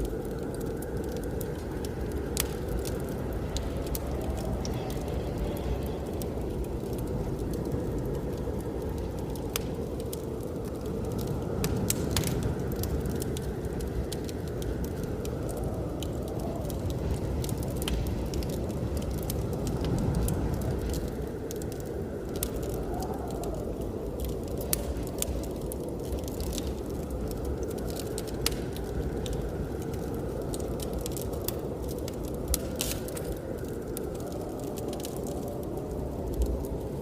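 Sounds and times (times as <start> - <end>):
blizzard wind rushing: 0.0 - 37.0
fire pops: 0.0 - 37.0
wood fire crackling: 0.0 - 37.0.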